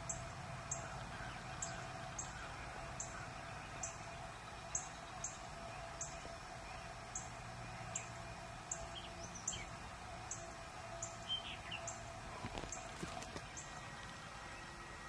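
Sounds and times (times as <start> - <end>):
lower bird chirps: 0.0 - 14.8
faint steady hum: 0.0 - 15.0.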